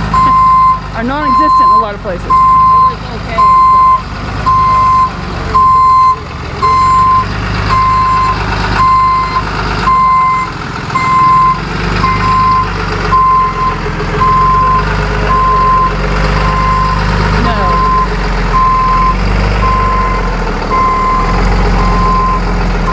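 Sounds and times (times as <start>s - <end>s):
truck engine running: 0.0s - 22.9s
reversing alarm beeping: 0.1s - 22.9s.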